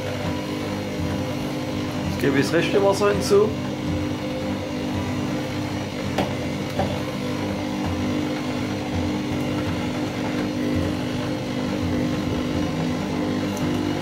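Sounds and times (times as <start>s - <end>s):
stand mixer motor humming: 0.0s - 14.0s.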